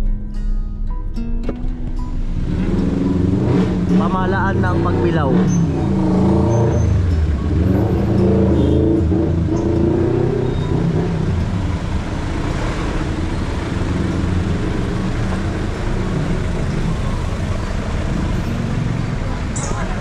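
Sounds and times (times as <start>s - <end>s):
road noise: 0.0s - 20.0s
truck engine: 0.9s - 20.0s.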